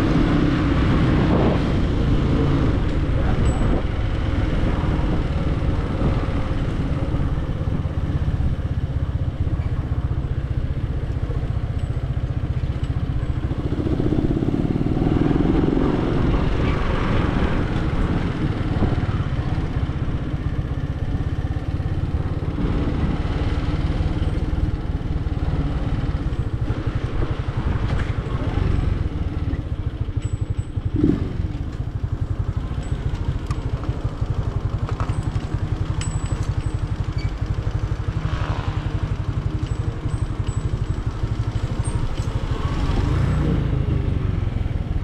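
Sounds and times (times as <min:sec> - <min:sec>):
vehicle engine and road rumble: 0:00.0 - 0:45.0.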